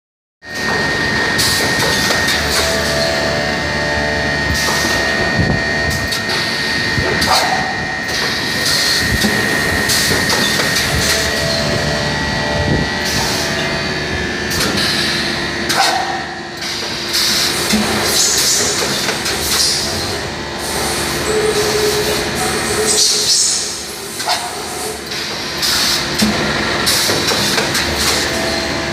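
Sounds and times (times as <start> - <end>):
high machine whine: 0.4 - 28.9
packaging machine humming: 0.4 - 28.9
hiss and clatter of machine: 0.5 - 3.3, 4.4 - 11.8, 13.0 - 13.8, 14.4 - 28.9.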